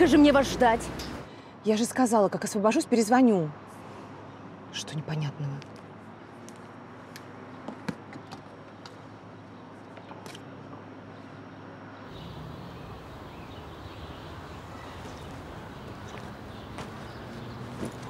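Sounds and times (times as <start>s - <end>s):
street ambience with low rumble: 0.0s - 18.0s.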